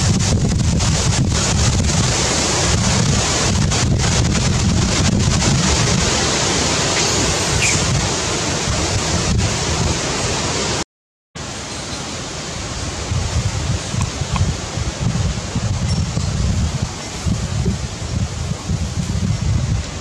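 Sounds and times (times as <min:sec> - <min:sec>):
wind buffeting microphone: 0:00.0 - 0:10.6, 0:12.6 - 0:20.0.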